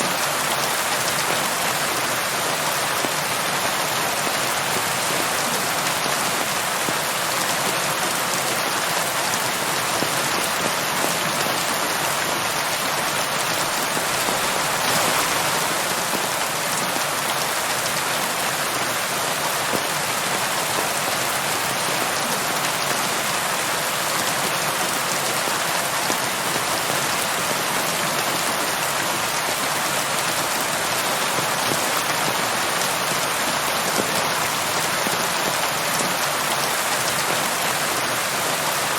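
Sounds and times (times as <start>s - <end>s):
rain pattering on surface: 0.0s - 38.9s.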